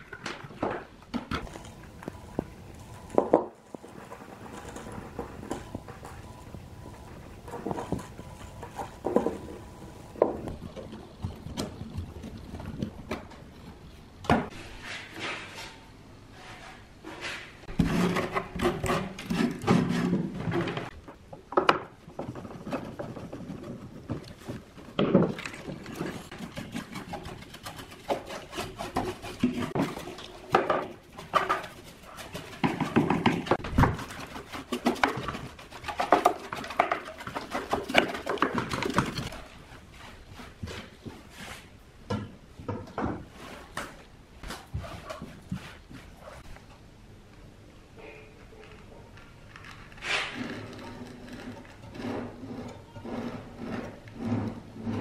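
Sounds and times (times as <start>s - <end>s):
knocks and scrapes of metal and wood: 0.0s - 46.6s, 48.0s - 55.0s.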